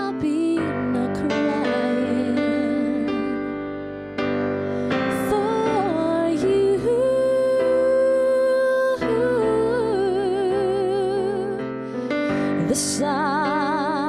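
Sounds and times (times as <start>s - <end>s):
woman singing: 0.0s - 3.6s, 4.8s - 14.0s
piano: 0.0s - 14.0s.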